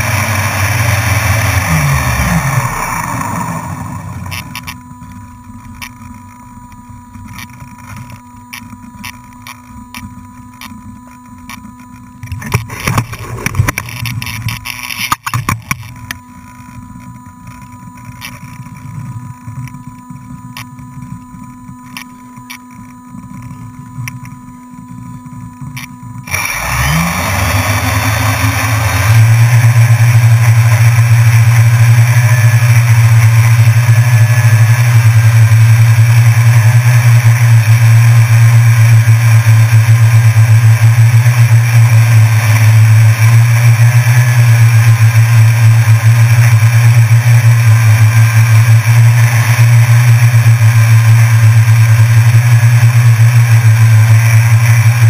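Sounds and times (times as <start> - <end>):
drone propellers buzzing: 0.0 - 55.0.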